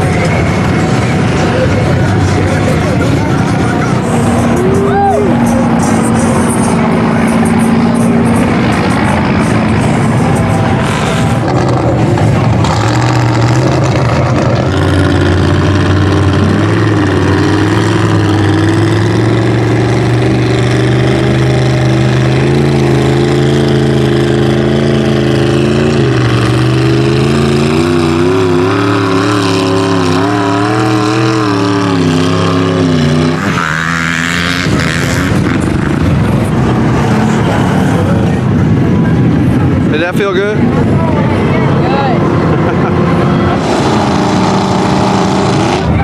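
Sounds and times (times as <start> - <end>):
truck engine revving hard: 0.0 - 46.0.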